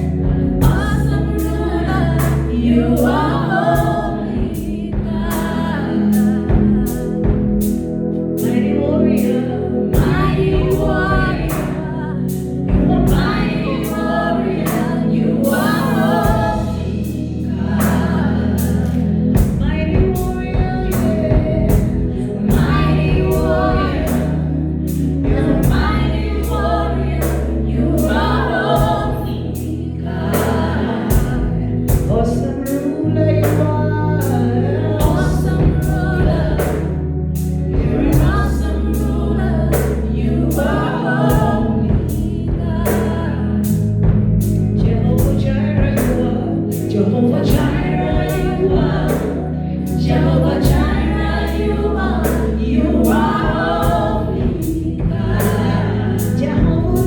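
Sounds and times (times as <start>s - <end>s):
steady drum beat: 0.0s - 34.3s, 34.9s - 57.0s
bass line: 0.0s - 57.0s
choir singing: 0.0s - 57.0s.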